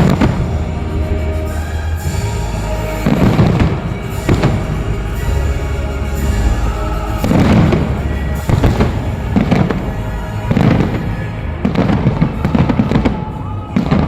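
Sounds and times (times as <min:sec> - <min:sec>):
fireworks bursting with crackling: 0:00.0 - 0:14.0
steady low rumble: 0:00.0 - 0:14.0.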